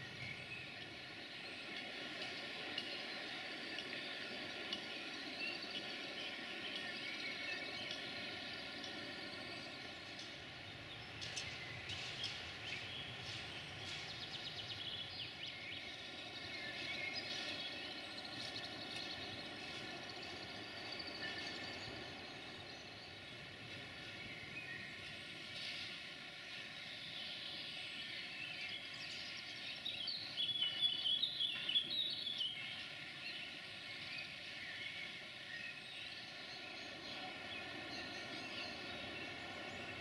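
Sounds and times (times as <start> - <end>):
birds chirping: 0.0 - 40.0
outdoor background noise: 0.0 - 40.0.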